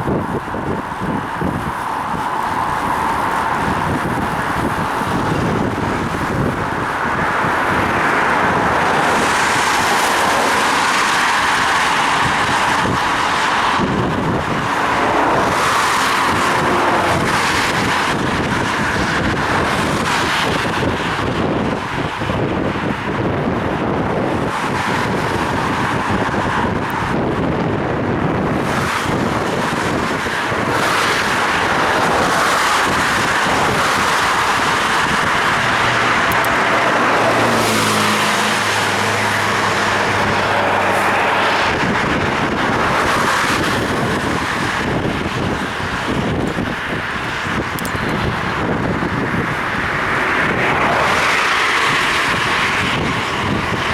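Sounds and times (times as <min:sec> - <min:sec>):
road traffic: 0:00.0 - 0:53.9
wind noise on microphone: 0:00.0 - 0:53.9.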